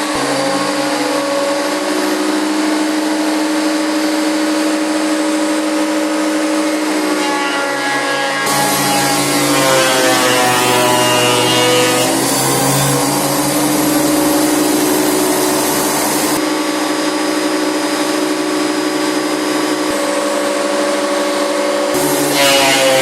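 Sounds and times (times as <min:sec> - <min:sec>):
thickness planer motor whine: 0:00.0 - 0:23.0.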